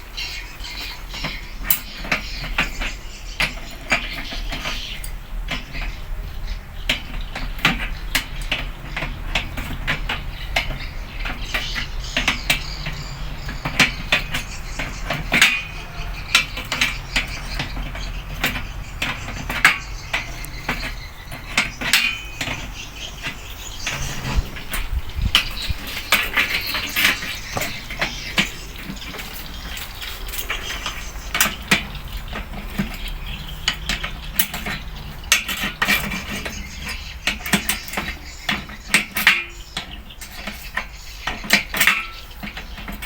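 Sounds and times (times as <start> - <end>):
metal tools clinking on metal: 7.4 - 43.0.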